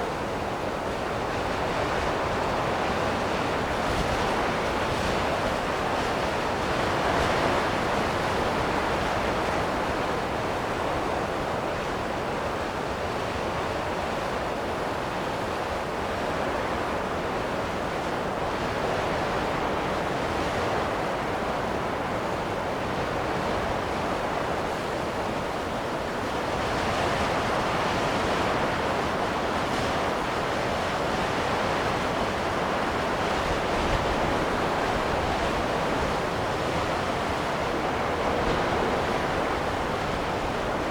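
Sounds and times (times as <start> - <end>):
wind blowing in gusts: 0.1 - 40.9.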